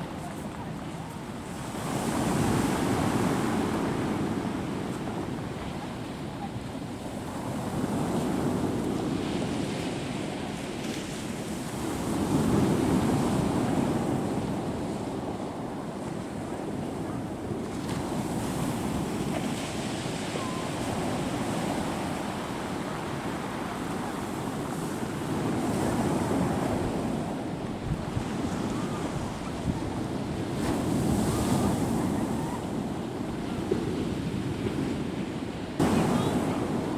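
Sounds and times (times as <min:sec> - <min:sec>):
sea waves washing onto shore: 0:00.0 - 0:36.9
wind buffeting microphone: 0:00.0 - 0:36.9.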